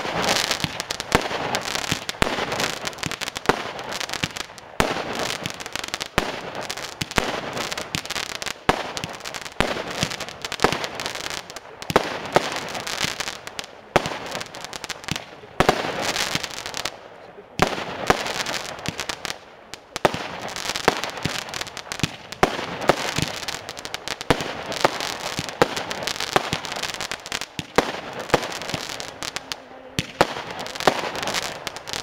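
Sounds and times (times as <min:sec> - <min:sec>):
firework battery firing: 0:00.0 - 0:17.0, 0:17.6 - 0:32.0.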